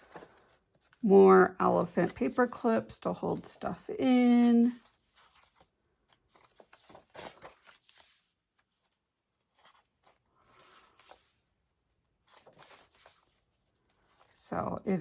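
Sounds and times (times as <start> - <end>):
paper pages rustling and turning: 0.0 - 14.5.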